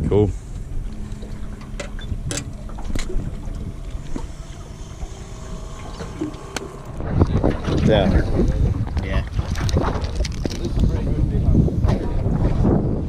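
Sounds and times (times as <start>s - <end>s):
low rumble of boat: 0.0s - 13.0s
wind on microphone: 0.0s - 13.0s.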